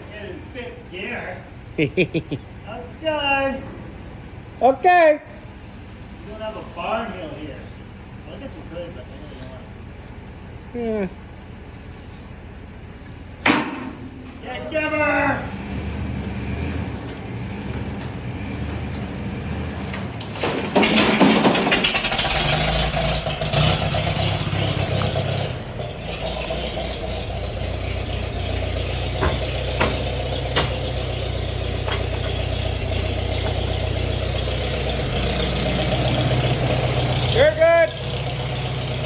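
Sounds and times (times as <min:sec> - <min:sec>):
towing engine running: 0:00.0 - 0:39.0
tractor engine running: 0:00.0 - 0:39.0.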